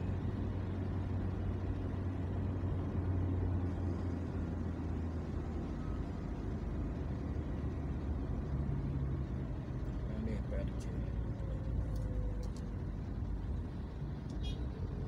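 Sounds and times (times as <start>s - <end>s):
car driving on road: 0.0s - 15.0s.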